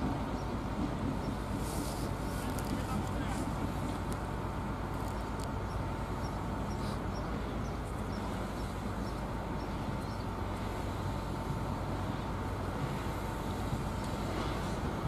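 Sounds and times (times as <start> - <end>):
steam train low rumble: 0.0 - 15.0.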